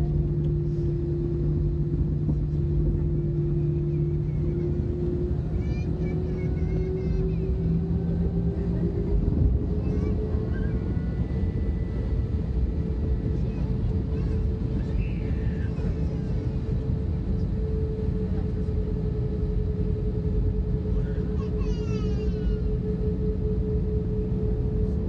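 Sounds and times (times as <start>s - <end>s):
faint voices: 0.0s - 23.3s
jet engines rumbling: 0.0s - 25.0s.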